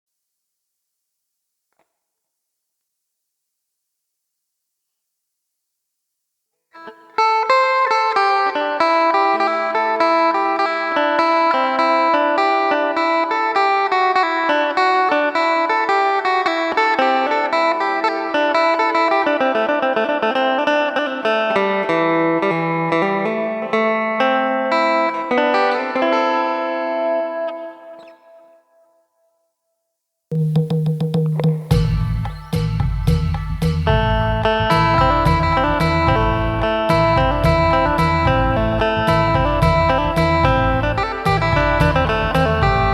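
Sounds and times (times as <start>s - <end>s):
plucked lute notes: 6.8s - 29.0s, 30.3s - 42.9s.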